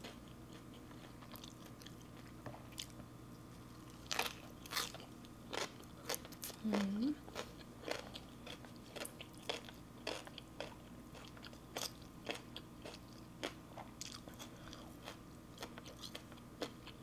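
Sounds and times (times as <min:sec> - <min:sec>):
chewing food: 0:00.0 - 0:17.0
faint steady hum: 0:00.0 - 0:17.0.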